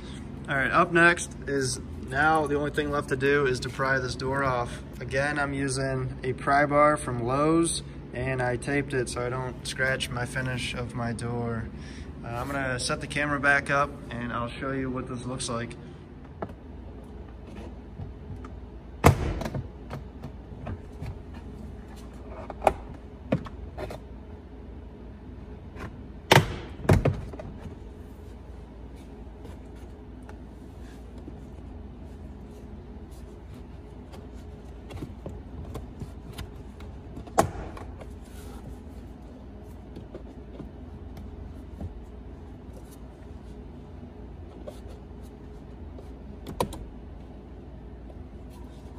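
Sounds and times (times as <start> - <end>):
quiet working noise: 0.0 - 48.9.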